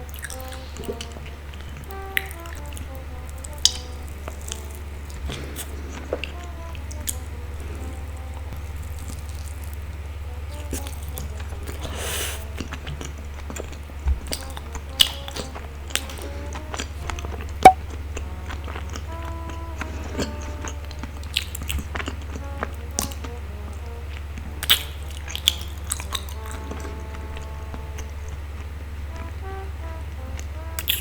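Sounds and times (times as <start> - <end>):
light background music: 0.0 - 31.0
sticky clicks of rice dough: 0.1 - 7.8, 10.5 - 29.3.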